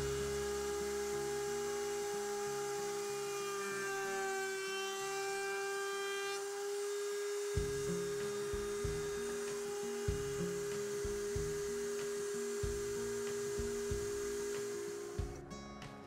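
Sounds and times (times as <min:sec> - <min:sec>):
router whining: 0:00.0 - 0:15.5.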